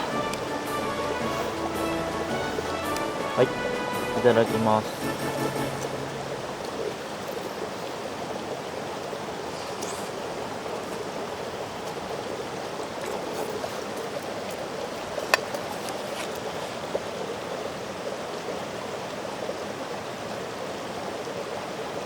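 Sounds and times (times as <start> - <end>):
stream rushing water: 0.0 - 22.0.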